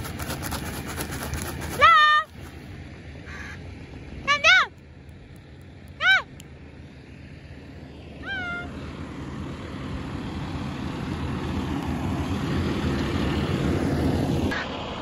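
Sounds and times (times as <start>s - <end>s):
fire engine rumble: 0.0s - 15.0s.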